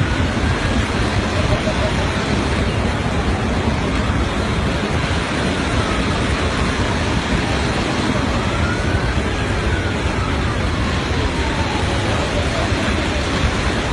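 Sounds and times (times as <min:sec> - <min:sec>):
floodwater rushing: 0:00.0 - 0:13.9.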